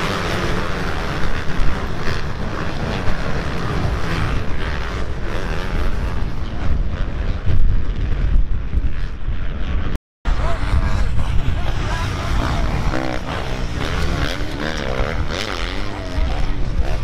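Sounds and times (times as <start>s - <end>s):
motocross bike engines: 0.0s - 17.0s
wind buffeting microphone: 0.0s - 17.0s.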